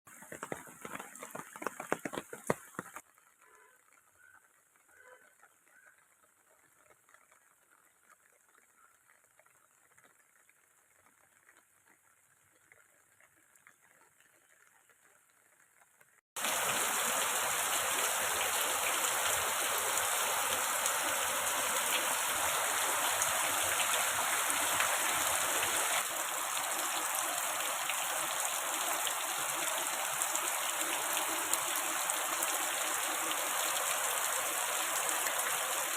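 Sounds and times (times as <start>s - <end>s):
rushing water: 0.1s - 15.7s, 16.4s - 35.9s.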